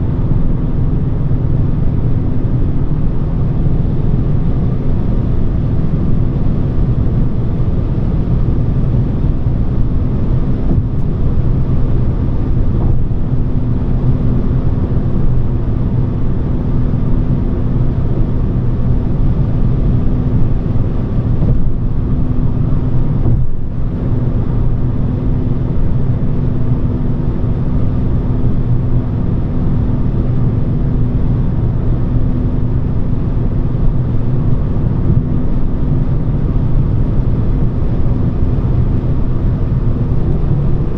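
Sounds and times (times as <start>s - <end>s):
car engine humming: 0.0s - 40.9s
road and tyre noise: 0.0s - 40.9s.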